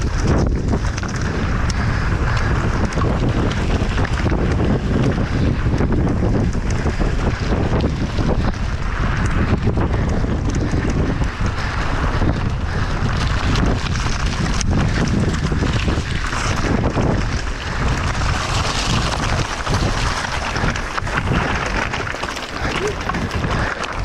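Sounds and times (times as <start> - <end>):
mountain bike rattling on rough ground: 0.0 - 24.0
wind buffeting microphone: 0.0 - 24.0.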